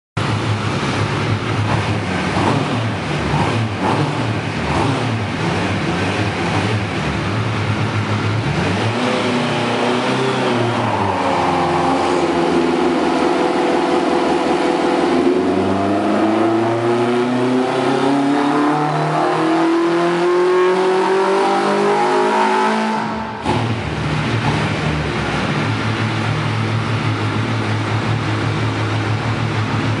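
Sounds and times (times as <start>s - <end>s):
car engine revving on dyno: 0.2s - 30.0s.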